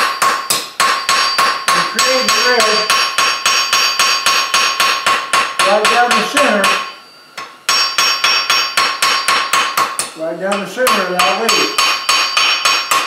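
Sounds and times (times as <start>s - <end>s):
hammer striking hot steel on anvil: 0.0s - 13.0s.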